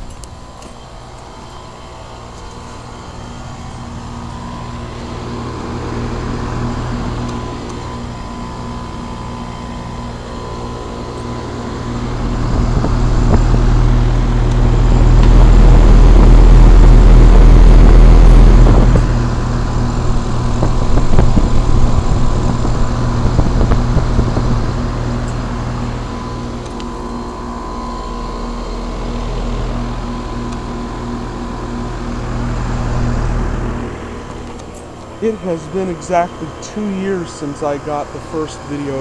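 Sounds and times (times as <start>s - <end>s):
heat pump humming: 0.0s - 39.0s
loud low rumble: 2.8s - 34.5s.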